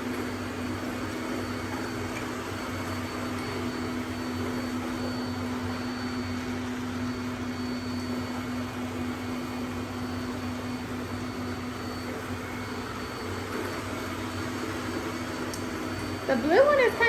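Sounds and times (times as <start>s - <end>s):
robot vacuums whirring hum: 0.0s - 17.0s.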